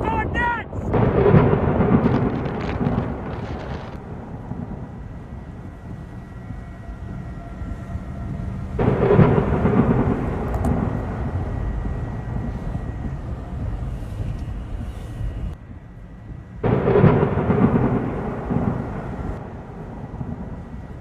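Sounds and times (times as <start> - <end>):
storm noise rushing: 0.0 - 21.0
thunder rumble: 0.0 - 21.0.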